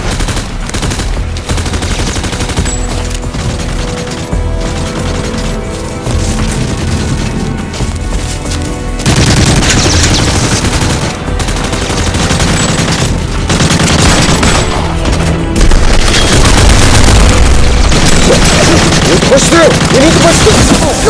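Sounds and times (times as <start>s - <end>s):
rapid gunfire: 0.0s - 5.6s, 6.6s - 7.6s, 9.0s - 21.0s
background music: 0.0s - 21.0s.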